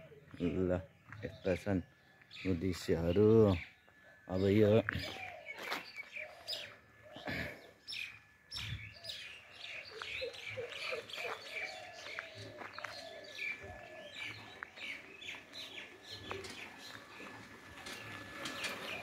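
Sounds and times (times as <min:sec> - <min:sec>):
birds chirping: 0:00.0 - 0:19.0
low repeated bird calls: 0:00.0 - 0:19.0.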